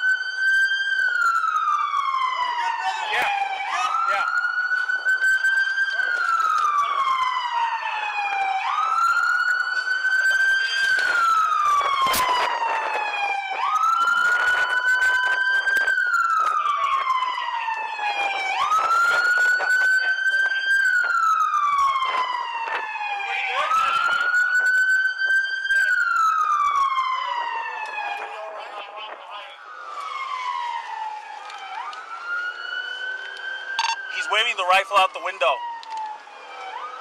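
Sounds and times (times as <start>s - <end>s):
police siren wailing: 0.0s - 37.0s.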